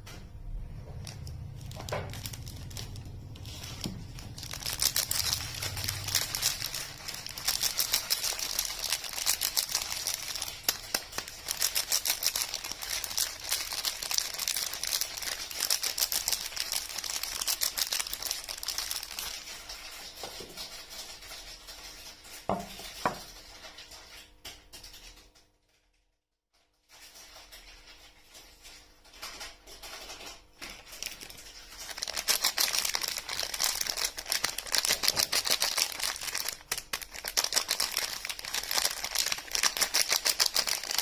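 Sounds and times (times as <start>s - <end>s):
soap wrapping crinkling: 0.8s - 25.2s, 26.8s - 41.0s.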